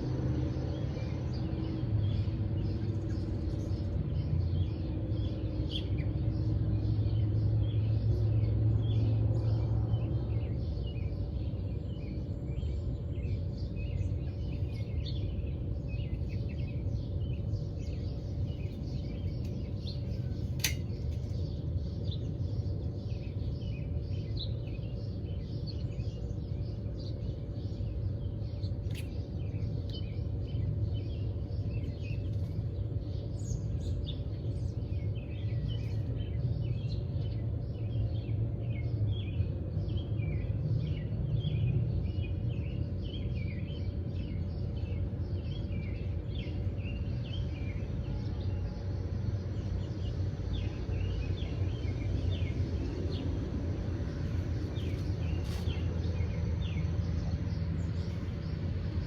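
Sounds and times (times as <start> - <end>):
faint hum: 0.0 - 59.0
small birds chirping: 0.0 - 59.0
steady low rumble: 0.0 - 59.0.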